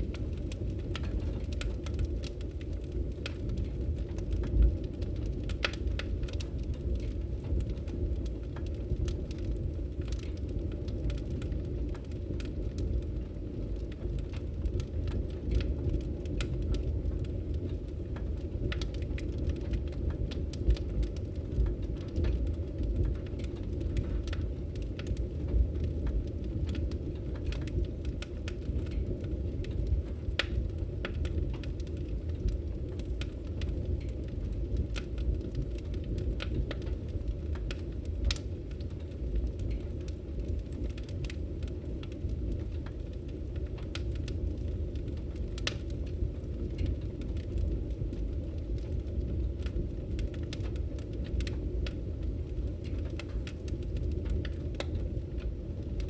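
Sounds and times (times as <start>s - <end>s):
burning logs crackling and popping: 0.0s - 56.0s
fire flames rumbling: 0.0s - 56.0s.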